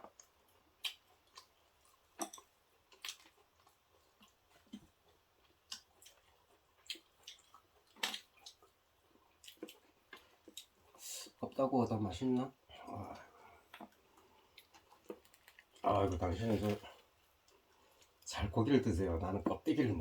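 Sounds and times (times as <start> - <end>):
person chewing food: 0.0 - 11.4, 12.8 - 18.3.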